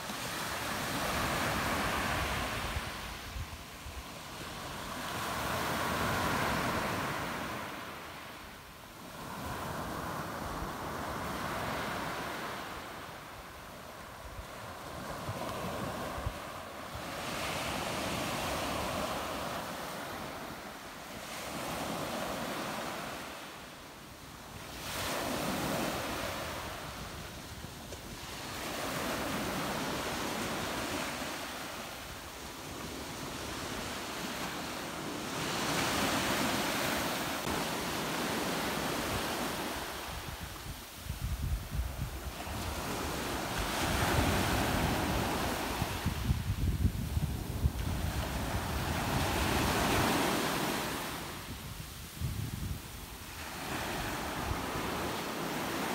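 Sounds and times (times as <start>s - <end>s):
small waves breaking on beach: 0.0s - 55.9s.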